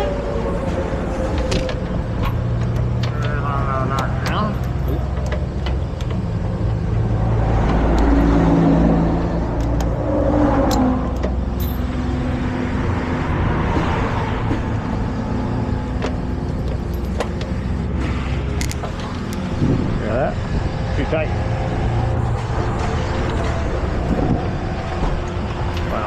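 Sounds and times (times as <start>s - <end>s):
traffic passing: 0.0s - 26.0s.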